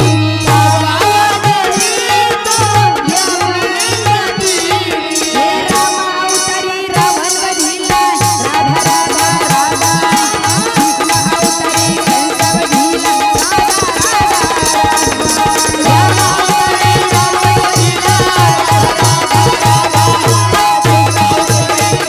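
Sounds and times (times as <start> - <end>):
girl singing through a pa: 0.0 - 22.0
jingling beat: 0.0 - 22.0
tabla drum strokes: 0.0 - 22.0.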